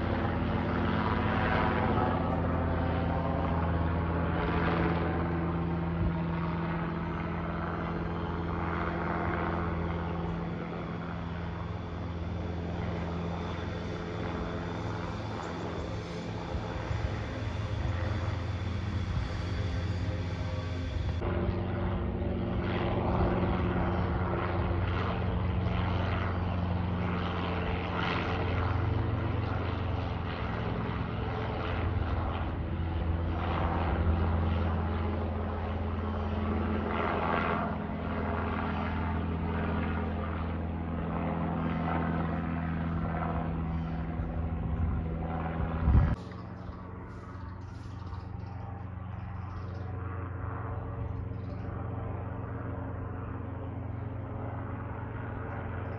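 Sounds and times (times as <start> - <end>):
aircraft engine hum: 0.0 - 55.9.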